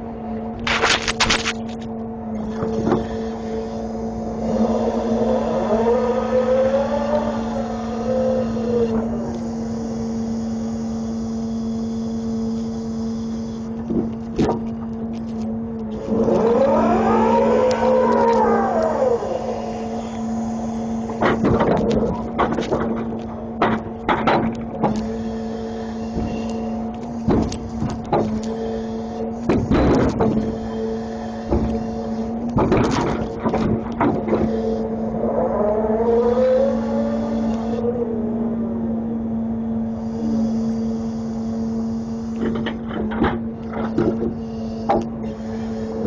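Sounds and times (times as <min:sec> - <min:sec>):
truck engine and hydraulics: 0:00.0 - 0:46.0.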